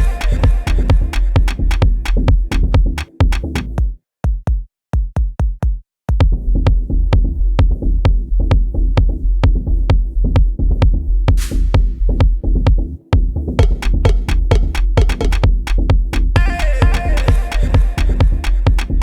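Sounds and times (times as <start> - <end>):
heavy bass line: 0.0 - 3.8, 6.2 - 19.0
electronic drum machine beat: 0.0 - 19.0.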